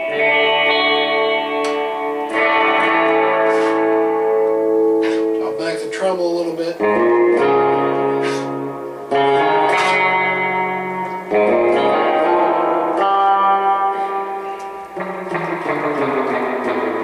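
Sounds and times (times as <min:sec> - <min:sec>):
electric guitar chords with reverb: 0:00.0 - 0:17.0.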